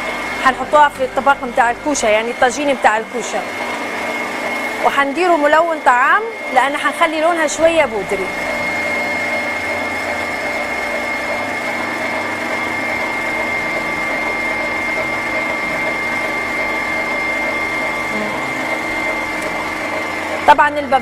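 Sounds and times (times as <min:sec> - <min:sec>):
electric stand mixer whining: 0:00.0 - 0:21.0.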